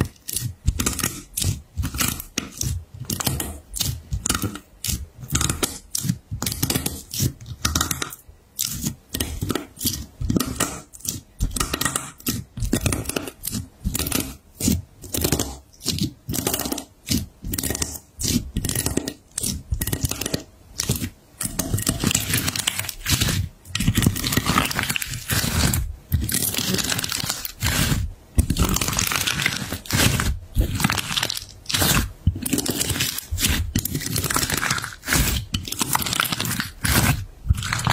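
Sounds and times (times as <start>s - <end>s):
slime crust crunching and crackling: 0.0s - 37.9s
sticky slime tearing: 0.0s - 37.9s.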